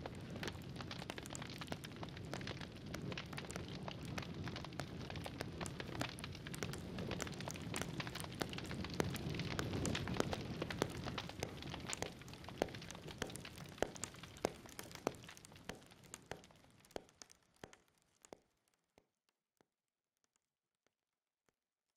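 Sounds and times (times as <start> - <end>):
rain pattering: 0.0 - 18.5.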